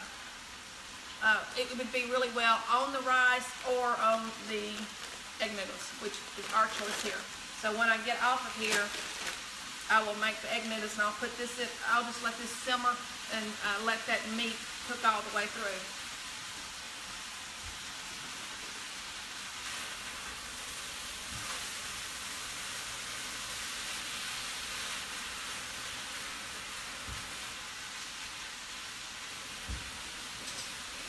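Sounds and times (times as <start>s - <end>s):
meat sizzling in a skillet: 0.0s - 31.0s.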